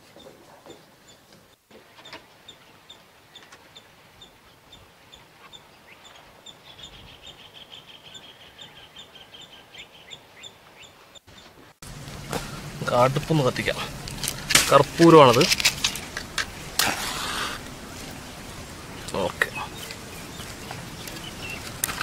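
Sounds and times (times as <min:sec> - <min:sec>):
bird chirping: 0:02.0 - 0:22.0.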